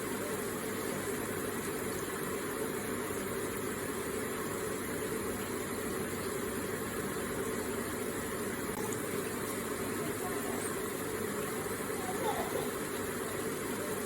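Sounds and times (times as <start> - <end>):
water feature running and splashing: 0.0 - 14.0.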